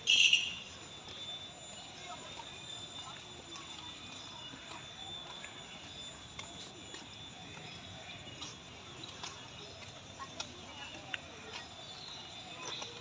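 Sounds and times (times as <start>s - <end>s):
distant murmur of voices: 0.0s - 13.0s
thin steady high tone: 0.0s - 13.0s.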